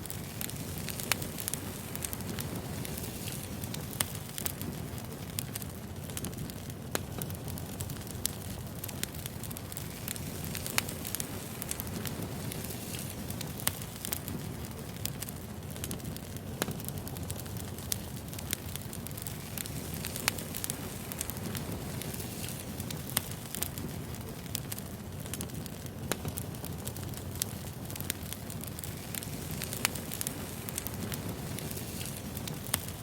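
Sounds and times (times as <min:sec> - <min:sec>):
burning logs crackling and popping: 0:00.0 - 0:33.0
low rumble of flames: 0:00.0 - 0:33.0.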